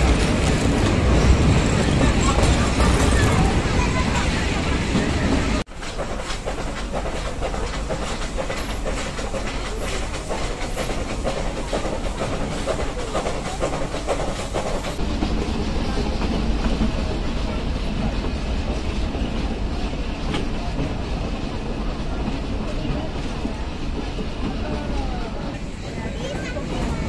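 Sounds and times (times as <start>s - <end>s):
train rumble: 0.0s - 27.0s
wheels clattering over rails: 0.0s - 27.0s.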